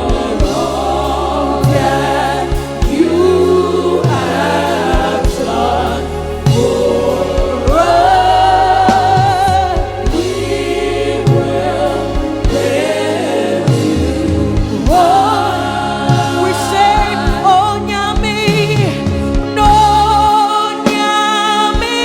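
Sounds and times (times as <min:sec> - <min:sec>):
band with bass and drums: 0:00.0 - 0:22.0
singers and choir: 0:00.0 - 0:22.0.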